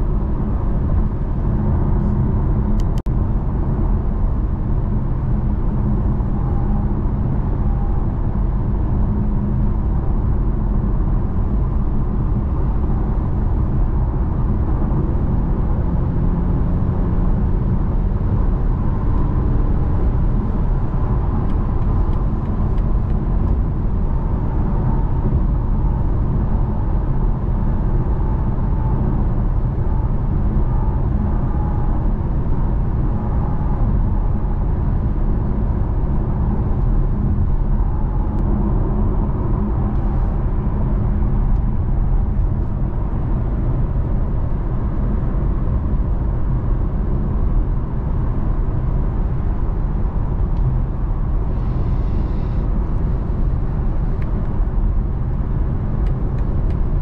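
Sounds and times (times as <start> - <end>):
car engine hum: 0.0 - 57.0
road and tyre rumble: 0.0 - 57.0.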